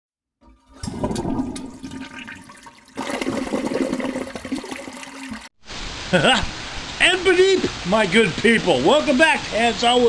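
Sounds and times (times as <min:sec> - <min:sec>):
water rushing and gurgling: 0:00.8 - 0:10.0.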